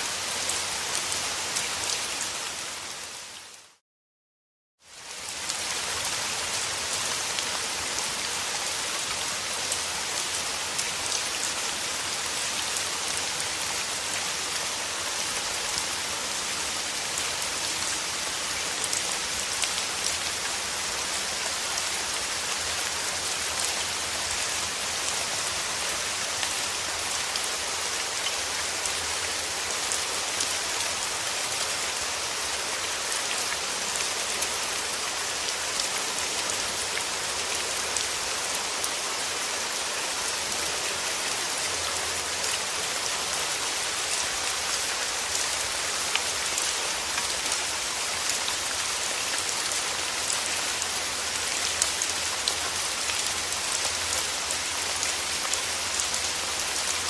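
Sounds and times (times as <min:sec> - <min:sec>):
steady rain falling: 0:00.0 - 0:03.8, 0:04.8 - 0:57.0.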